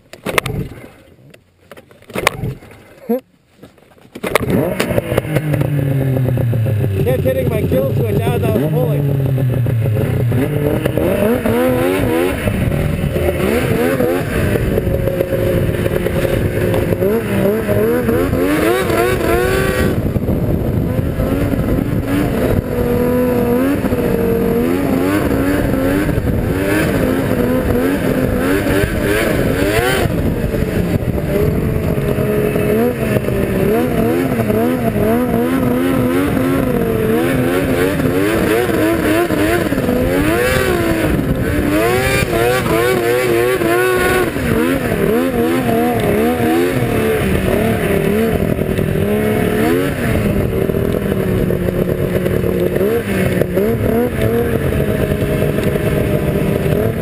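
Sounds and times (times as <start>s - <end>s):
snowmobile engine revving: 4.2s - 57.0s.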